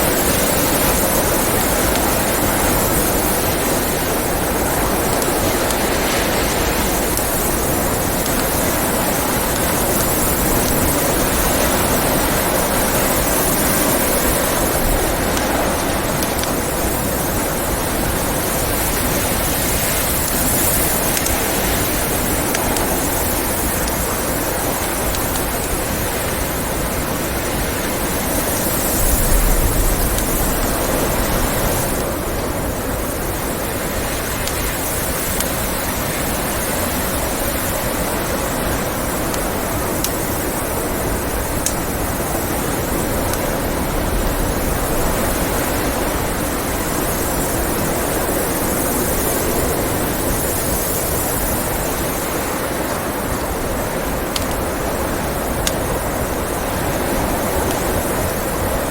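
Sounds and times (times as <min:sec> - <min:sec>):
blizzard wind blowing: 0:00.0 - 0:58.9
wood fire crackling: 0:00.0 - 0:58.9.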